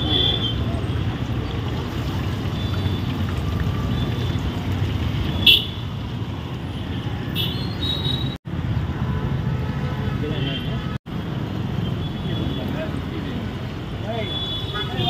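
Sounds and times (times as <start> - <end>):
roadside traffic rumble: 0.0 - 15.0.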